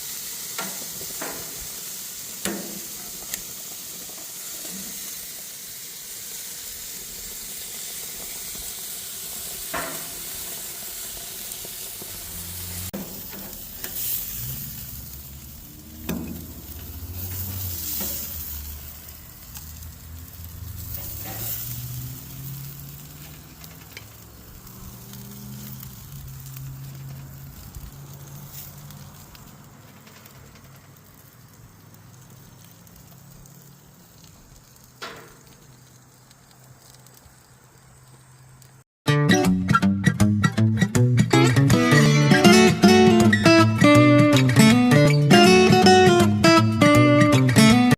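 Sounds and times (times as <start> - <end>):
meat sizzling on a grill: 0.0 - 38.9, 41.8 - 47.9.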